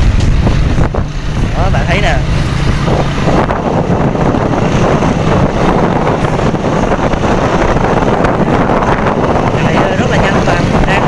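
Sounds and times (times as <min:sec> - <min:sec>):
small motorcycle engine running: 0:00.0 - 0:11.0
wind rushing over microphone: 0:00.0 - 0:11.0.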